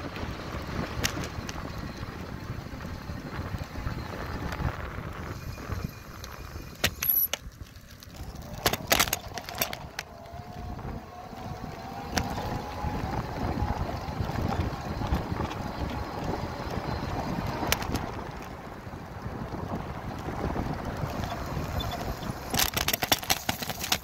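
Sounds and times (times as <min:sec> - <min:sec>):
bike wheels clicking and knocking: 0:00.0 - 0:24.0
wind buffeting microphone: 0:00.0 - 0:24.0.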